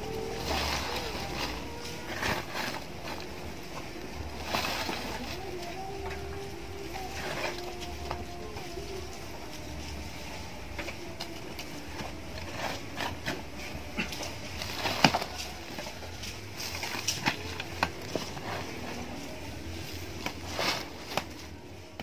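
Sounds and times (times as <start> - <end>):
hand tool scraping: 0.0 - 22.0.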